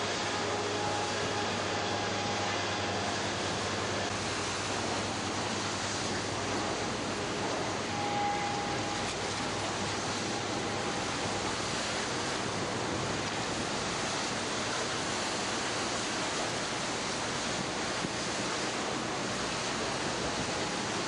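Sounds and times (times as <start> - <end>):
rough sea: 0.0 - 21.0
wind: 0.0 - 21.0.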